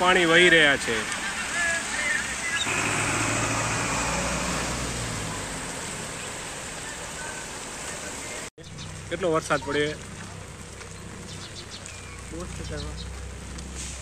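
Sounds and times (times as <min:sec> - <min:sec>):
truck engine humming: 0:00.0 - 0:14.0
water hissing from tyres: 0:00.0 - 0:14.0.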